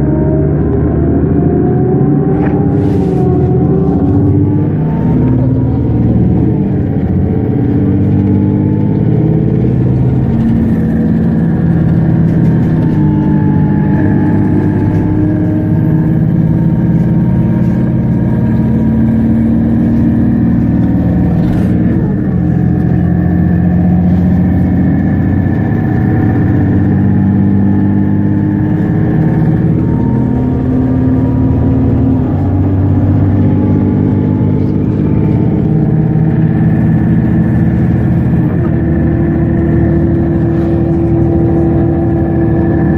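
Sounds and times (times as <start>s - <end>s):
bus diesel engine running: 0.0s - 42.9s
faint high drivetrain whine: 0.0s - 42.9s.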